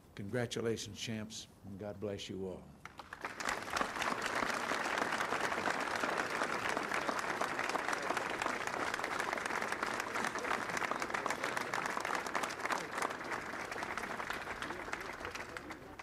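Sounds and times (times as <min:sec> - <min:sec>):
audience applauding: 0:02.9 - 0:16.0.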